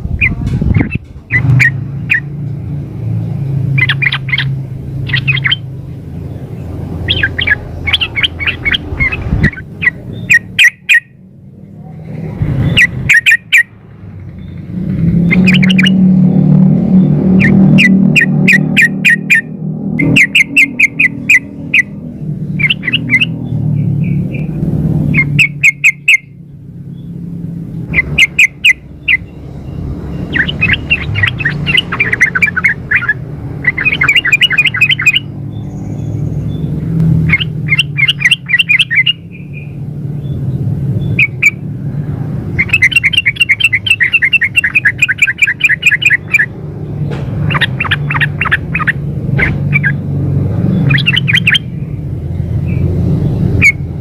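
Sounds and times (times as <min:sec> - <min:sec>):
bird chattering calls: 0:00.1 - 0:02.3, 0:03.6 - 0:11.2, 0:12.5 - 0:16.0, 0:17.2 - 0:26.4, 0:27.7 - 0:41.7, 0:42.4 - 0:54.0.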